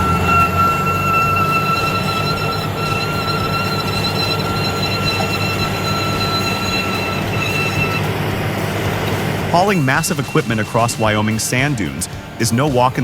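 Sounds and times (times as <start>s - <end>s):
diesel engine running: 0.0s - 13.0s
high-pitched whine: 0.0s - 13.0s.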